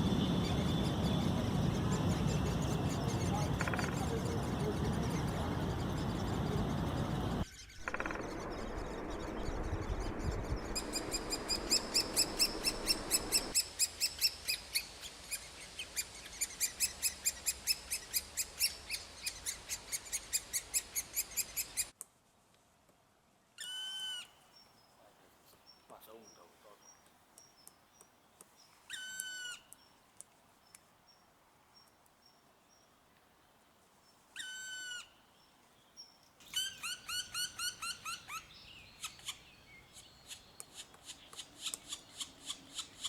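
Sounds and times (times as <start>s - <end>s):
bird chirping: 0.0s - 21.9s, 23.6s - 30.0s, 34.1s - 43.0s.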